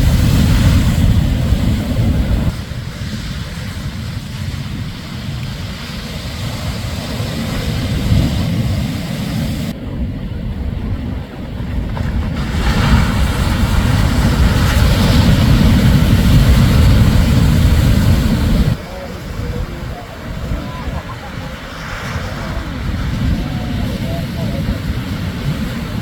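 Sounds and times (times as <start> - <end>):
surf crashing on beach: 0.0 - 26.0
wind on microphone: 0.0 - 26.0.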